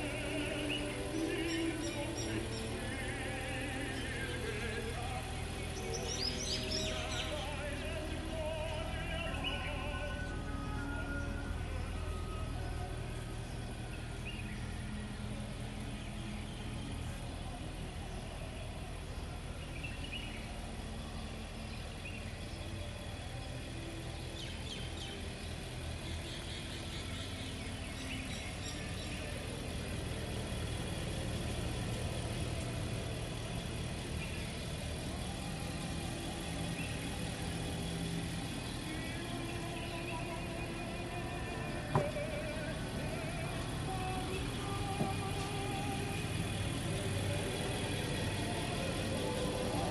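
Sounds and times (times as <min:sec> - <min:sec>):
car engine running low hum: 0:00.0 - 0:49.9.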